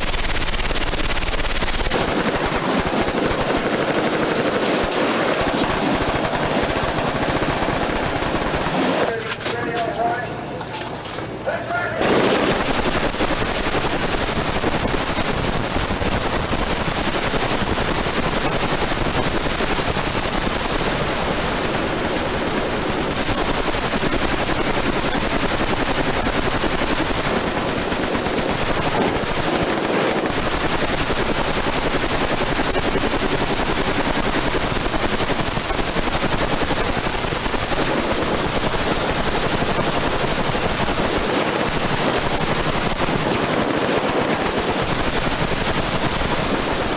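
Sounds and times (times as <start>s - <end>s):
machine guns firing: 0.0s - 46.9s.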